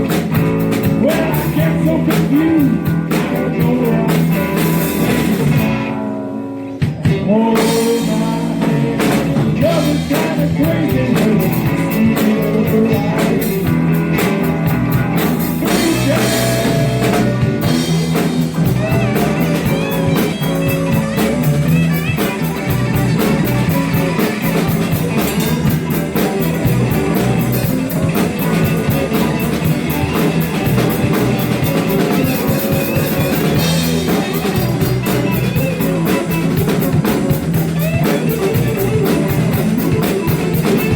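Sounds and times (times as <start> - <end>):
blues band playing: 0.0 - 40.9
guitar bending lead lines: 0.0 - 40.9.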